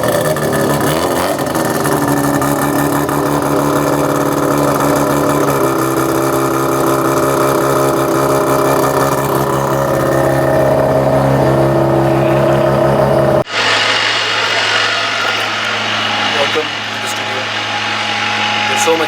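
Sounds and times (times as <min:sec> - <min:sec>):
rotary engine idling: 0:00.0 - 0:19.0.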